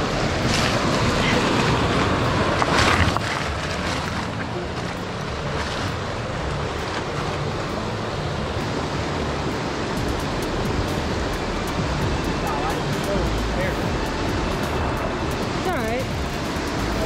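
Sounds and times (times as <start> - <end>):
river water rushing over spillway: 0.0 - 17.0.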